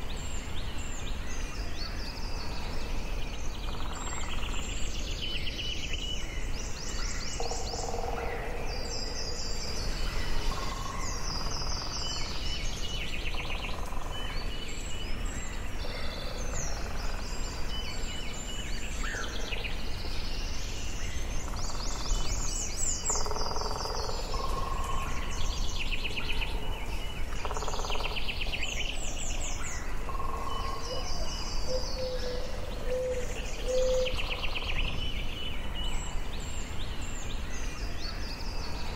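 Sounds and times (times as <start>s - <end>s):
low background noise: 0.0s - 38.9s.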